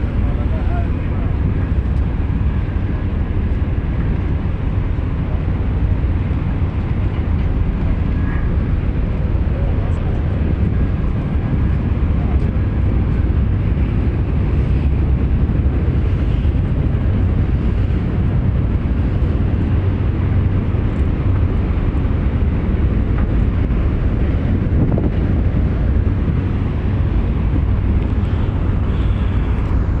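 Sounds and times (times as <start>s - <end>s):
low rumble: 0.0s - 30.0s
wind buffeting microphone: 0.0s - 30.0s.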